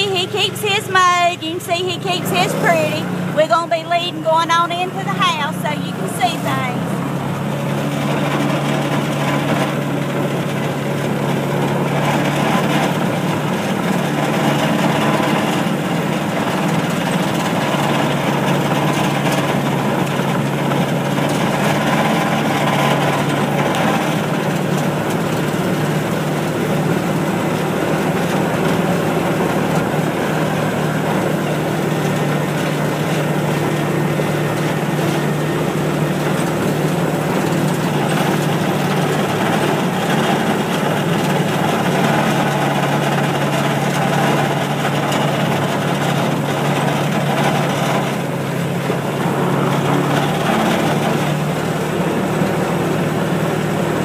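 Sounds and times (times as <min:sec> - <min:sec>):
small engine humming: 0:00.0 - 0:54.0.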